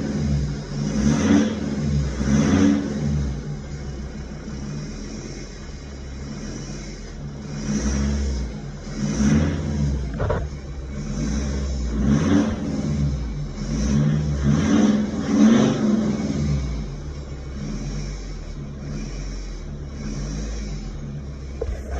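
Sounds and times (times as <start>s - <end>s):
diesel engine revving: 0.0s - 21.9s.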